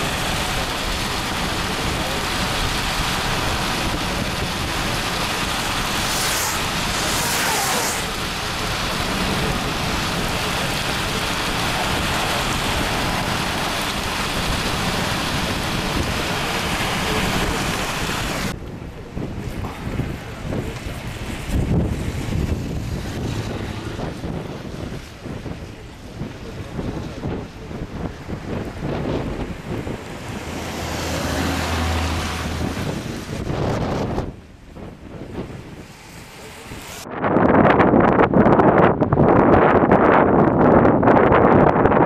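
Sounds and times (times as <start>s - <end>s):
rushing wind and rain: 0.0s - 42.0s
wind buffeting microphone: 0.0s - 42.0s.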